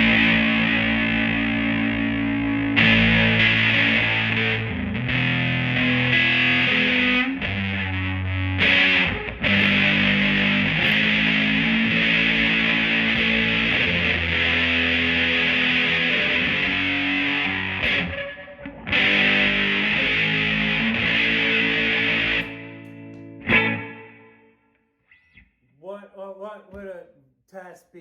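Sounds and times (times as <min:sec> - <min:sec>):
fuzzy electric guitar chords: 0:00.0 - 0:24.6.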